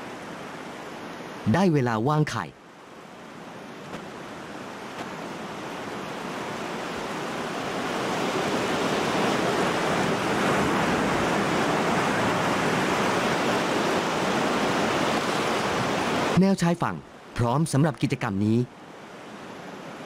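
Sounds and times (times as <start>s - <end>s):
waves washing on shore: 0.0s - 20.0s.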